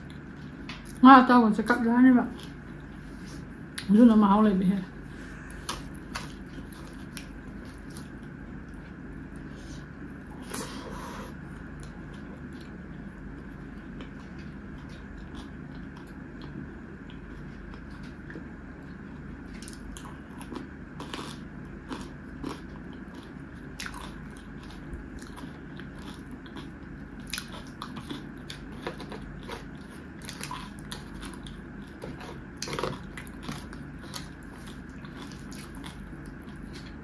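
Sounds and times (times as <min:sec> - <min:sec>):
chewing and crunching: 0:05.1 - 0:37.0.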